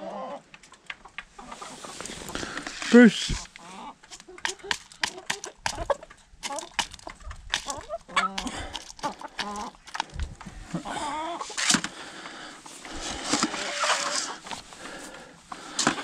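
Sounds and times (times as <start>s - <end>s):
chickens clucking: 0.0s - 16.0s
beaks pecking plastic scoop: 1.0s - 10.6s, 11.4s - 16.0s.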